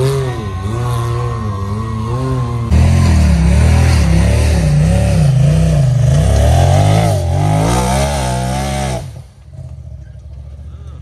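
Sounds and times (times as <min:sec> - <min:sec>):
utility vehicle engine revving: 0:00.0 - 0:10.4.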